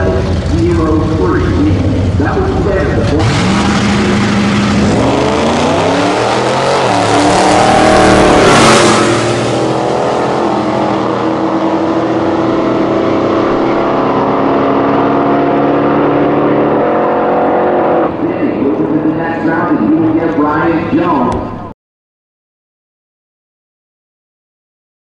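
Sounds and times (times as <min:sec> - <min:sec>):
pickup truck engines at full throttle: 0:00.0 - 0:21.6.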